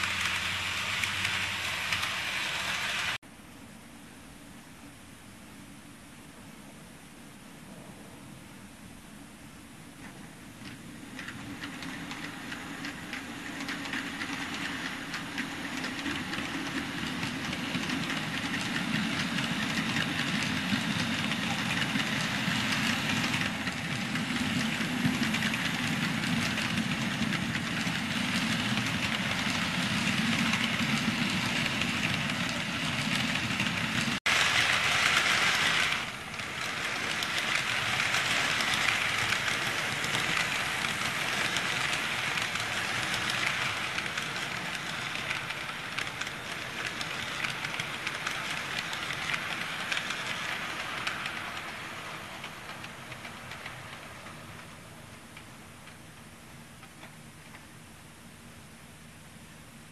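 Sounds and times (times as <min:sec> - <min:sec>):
model train rattling hum: 0:00.0 - 0:03.2, 0:10.0 - 0:57.6.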